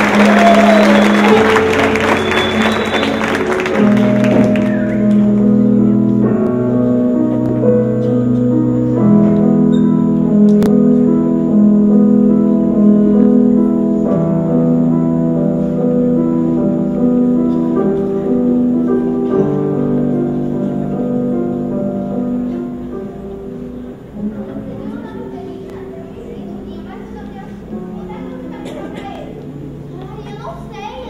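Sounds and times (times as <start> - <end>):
slow piano music: 0.0 - 31.0.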